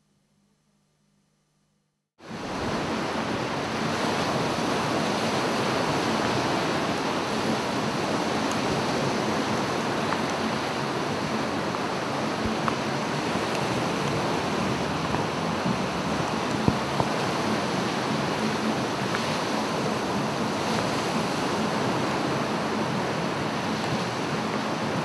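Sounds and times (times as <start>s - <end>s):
surf breaking on beach: 2.2s - 25.0s
wind buffeting microphone: 2.2s - 25.0s.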